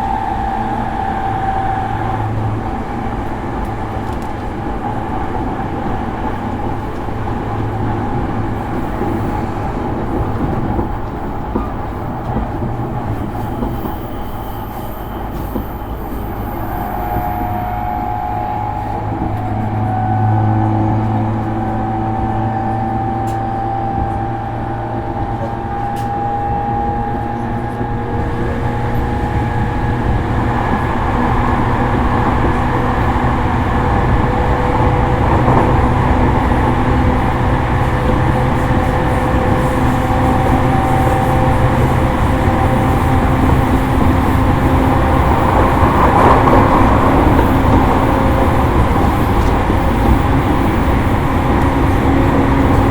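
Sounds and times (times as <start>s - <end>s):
train motor whine: 0.0s - 5.0s, 11.5s - 52.9s
wheels rumbling on rail: 0.0s - 52.9s.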